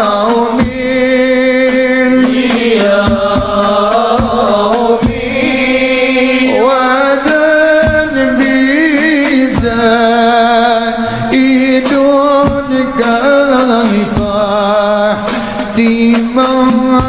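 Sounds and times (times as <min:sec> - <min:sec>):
drum strikes: 0:00.0 - 0:17.0
person singing devotional song: 0:00.0 - 0:17.0.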